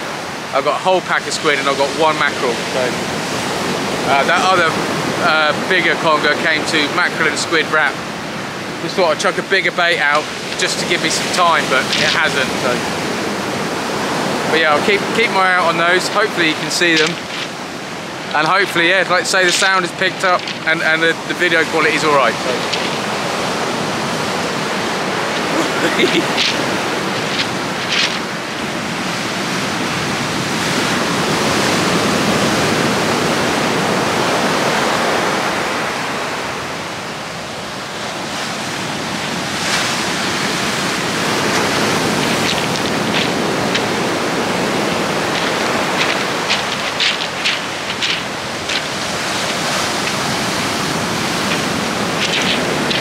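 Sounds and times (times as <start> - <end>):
sea surf breaking on beach: 0.0 - 53.0.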